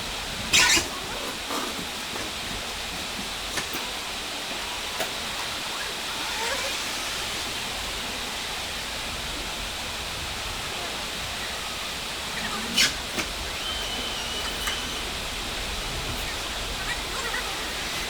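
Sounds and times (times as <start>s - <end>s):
steady rushing hiss: 0.0s - 18.0s.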